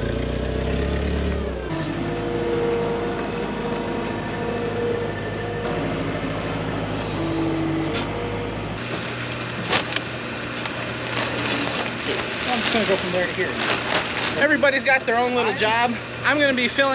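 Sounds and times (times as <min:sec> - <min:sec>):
forklift engine: 0:00.0 - 0:16.9
skid steer loader engine running: 0:00.0 - 0:16.9
high-pitched whine: 0:01.4 - 0:16.9.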